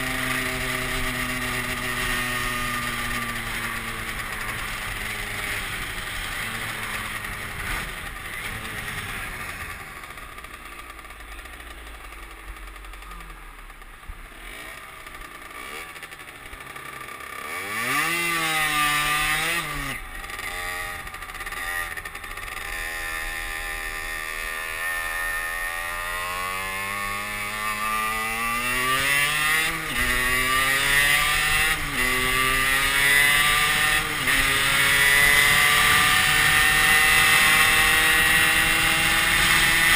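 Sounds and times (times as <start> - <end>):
moped engine revving: 0.0 - 39.9.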